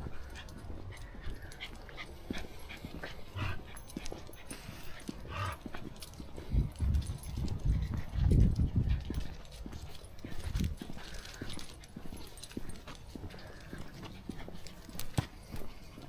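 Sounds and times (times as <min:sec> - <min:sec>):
footsteps on woodland path: 0:00.0 - 0:16.0.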